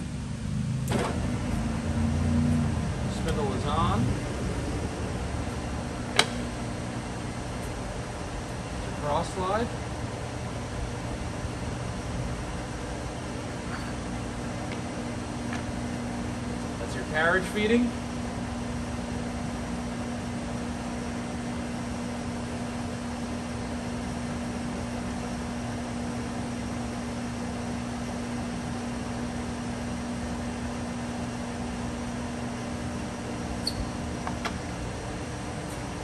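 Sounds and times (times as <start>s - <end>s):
lathe running with steady hum: 0.0s - 36.0s.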